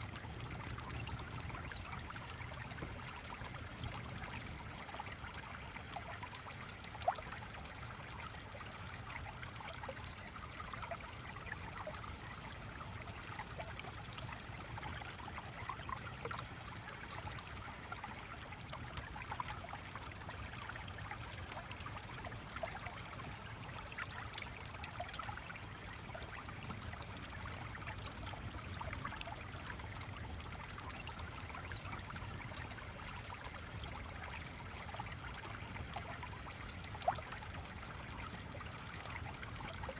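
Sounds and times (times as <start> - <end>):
flowing stream: 0.0 - 39.9.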